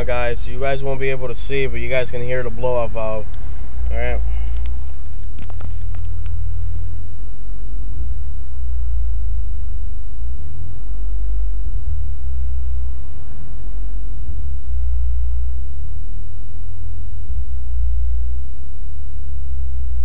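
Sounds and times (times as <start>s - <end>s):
car engine rumble from cabin: 0.0s - 20.0s.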